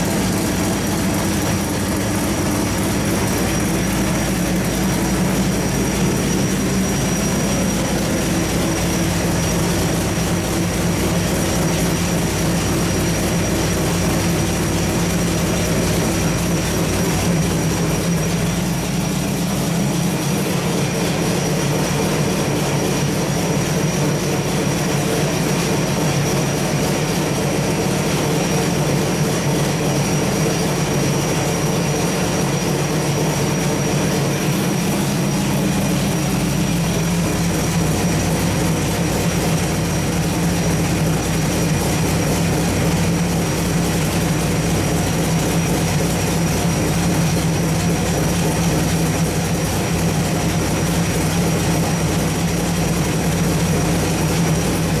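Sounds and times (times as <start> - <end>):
engine droning: 0.0 - 55.0.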